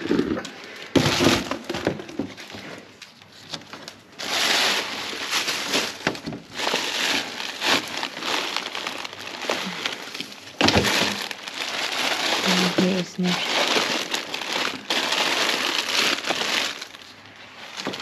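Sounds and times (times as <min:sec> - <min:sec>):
plastic bags rustling: 0:00.0 - 0:18.0.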